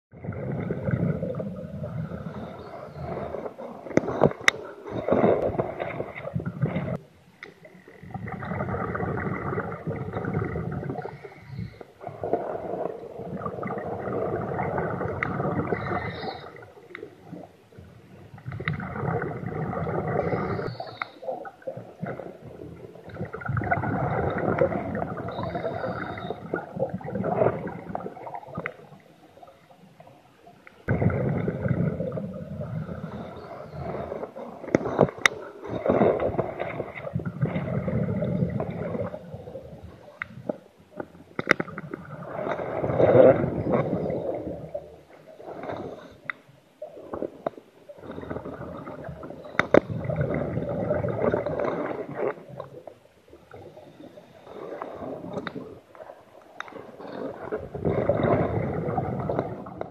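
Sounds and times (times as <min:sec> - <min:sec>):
underwater bubbles gurgling: 0:00.1 - 0:59.9.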